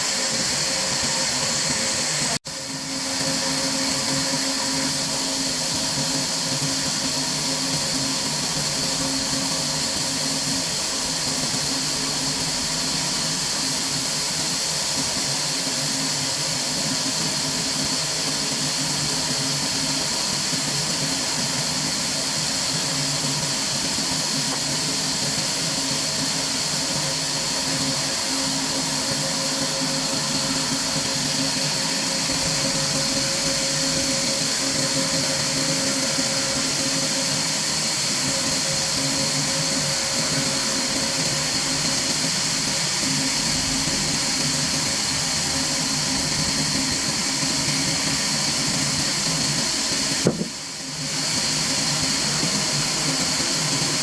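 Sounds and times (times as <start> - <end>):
machinery drone with hiss: 0.0 - 54.0.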